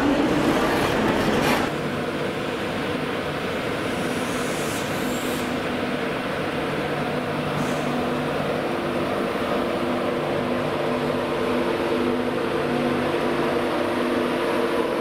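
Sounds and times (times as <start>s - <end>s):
train equipment hum: 0.0s - 15.0s.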